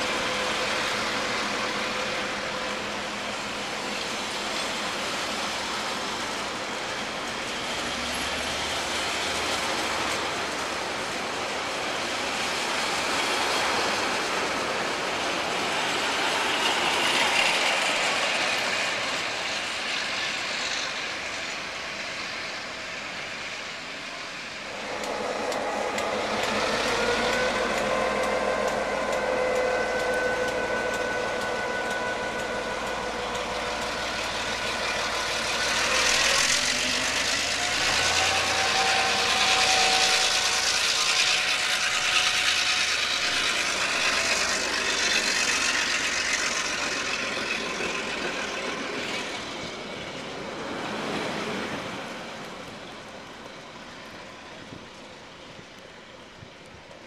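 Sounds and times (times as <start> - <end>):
locomotive engine whining: 0.0 - 56.8
carriage wheels rumbling on rail: 0.0 - 57.0.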